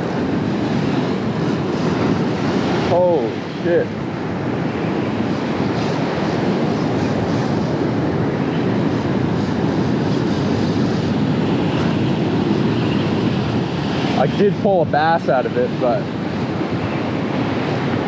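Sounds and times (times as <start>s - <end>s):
surf at the shoreline: 0.0s - 18.0s
wind: 0.0s - 18.0s.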